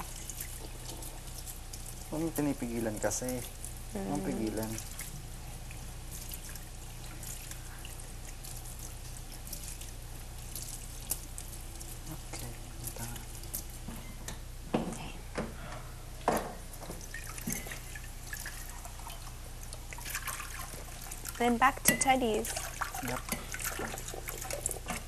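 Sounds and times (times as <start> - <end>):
water dripping and trickling: 0.0 - 14.4, 16.2 - 25.0
steady low hum: 0.0 - 25.0.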